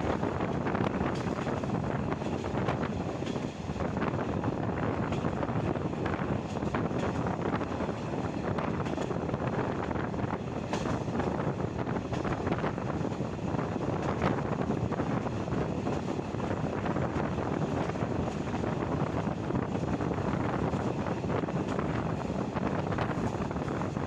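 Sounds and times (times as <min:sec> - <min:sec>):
train wheels rolling on rails: 0:00.0 - 0:24.0
wind buffeting microphone: 0:00.0 - 0:24.0.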